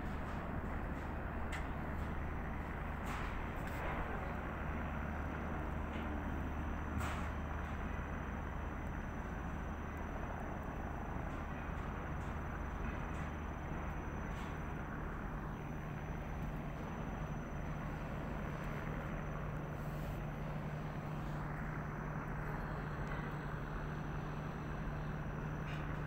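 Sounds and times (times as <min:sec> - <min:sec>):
construction machinery hum: 0:00.0 - 0:26.0.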